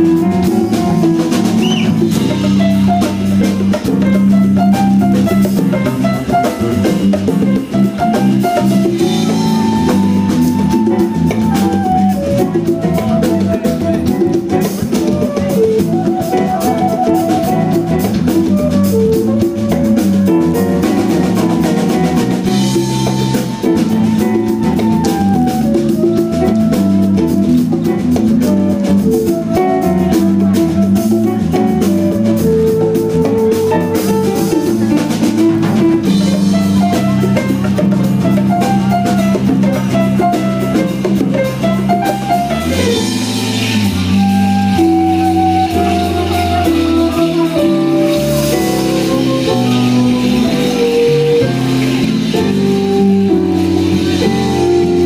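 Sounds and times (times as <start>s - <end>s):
drum kit and percussion groove: 0.0s - 55.0s
electric bass: 0.0s - 55.0s
melodic line in quick notes: 0.0s - 55.0s.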